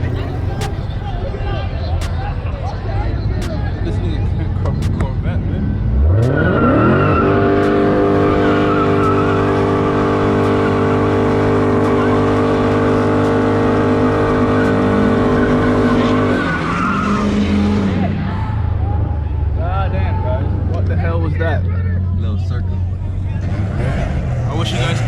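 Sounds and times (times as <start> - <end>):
car engine revving: 0.0 - 25.0
tires squealing: 0.0 - 25.0.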